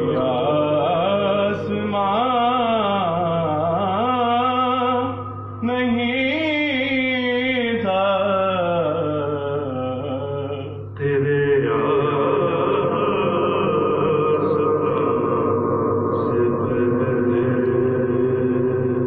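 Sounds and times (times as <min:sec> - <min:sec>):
man singing into microphone: 0:00.0 - 0:15.7
steady low hum: 0:00.0 - 0:19.0.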